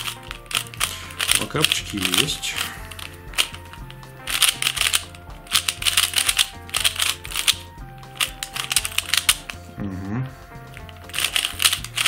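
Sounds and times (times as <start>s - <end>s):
plastic puzzle cube clicking: 0.0s - 9.6s, 10.7s - 12.0s
background music: 0.0s - 12.0s.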